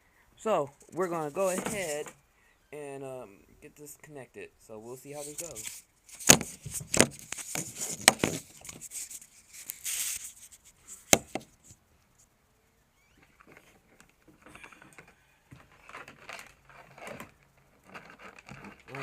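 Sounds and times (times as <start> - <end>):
rustling: 0.5 - 2.9, 4.8 - 19.0
fiddling with wires: 0.6 - 2.7, 5.1 - 12.4, 13.1 - 19.0.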